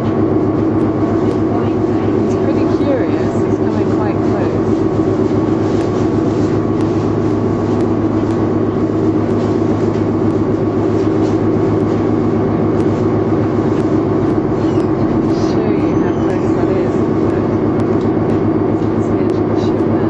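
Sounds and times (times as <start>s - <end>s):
steady engine drone: 0.0s - 20.0s.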